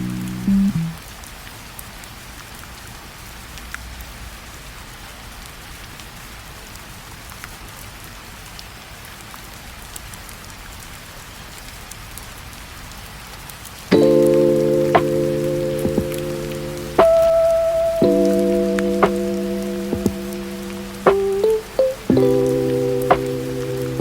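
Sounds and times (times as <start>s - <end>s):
steady rain hissing: 0.0s - 24.0s.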